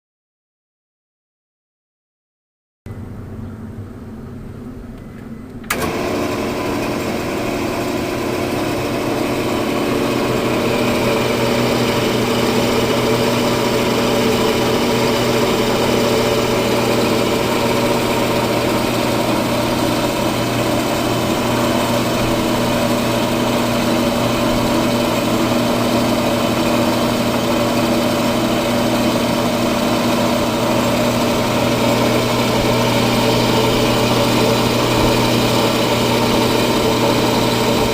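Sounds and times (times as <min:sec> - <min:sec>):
electric motor humming: 0:05.7 - 0:37.9.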